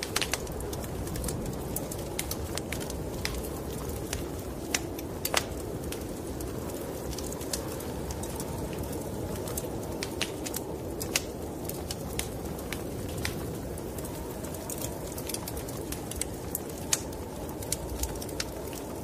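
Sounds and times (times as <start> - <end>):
low rumbling wind: 0.0 - 19.0
wood fire crackling and popping: 0.0 - 19.0.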